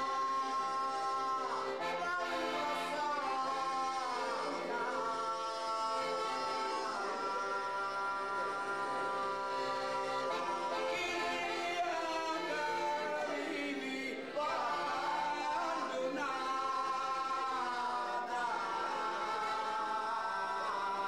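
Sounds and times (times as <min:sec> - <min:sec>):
folk singing: 0:00.0 - 0:21.0.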